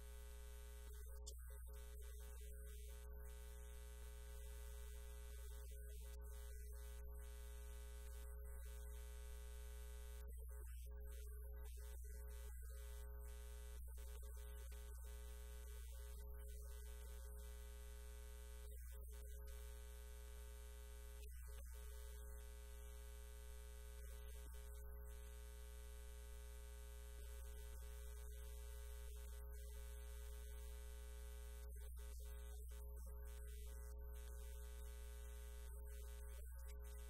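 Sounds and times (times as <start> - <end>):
faint electrical hum: 0.0 - 37.0.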